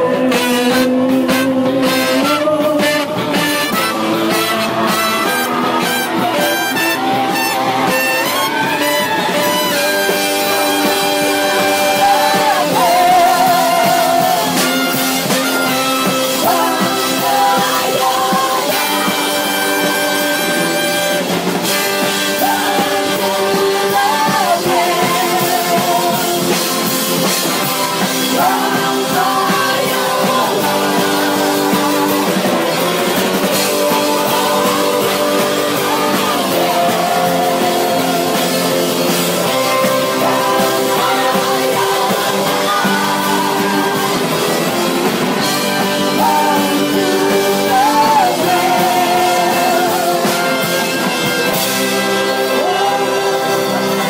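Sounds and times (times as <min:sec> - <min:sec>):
bass: 0:00.0 - 0:54.0
drums: 0:00.0 - 0:54.0
electric guitar: 0:00.0 - 0:54.0
woman singing lead: 0:00.0 - 0:54.0
women's backing vocals: 0:00.0 - 0:54.0.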